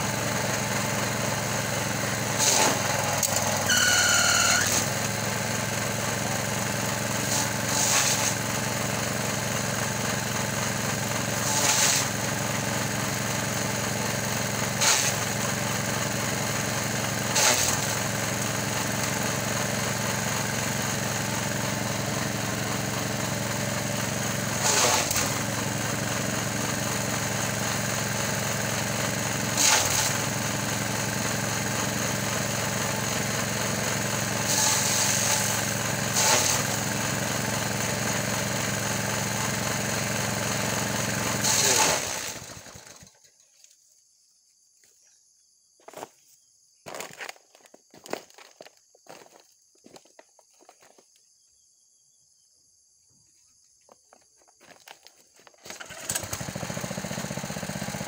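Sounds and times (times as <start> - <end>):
small gasoline engine running: 0.0 - 43.3, 54.6 - 58.0
chopper shredding stalks: 0.1 - 43.2, 54.6 - 58.0.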